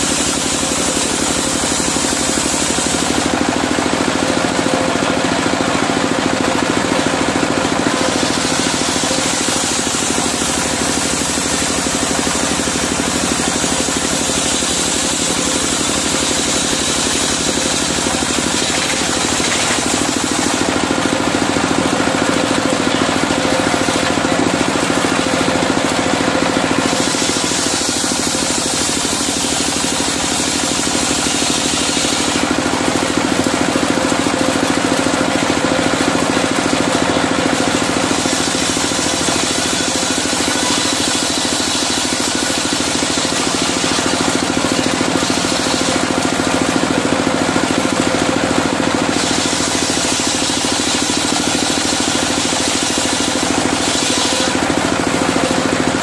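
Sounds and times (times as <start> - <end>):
saw blade cutting timber: 0.0 - 4.8, 5.5 - 33.5, 36.3 - 48.3, 48.9 - 56.0
diesel engine running: 0.0 - 56.0.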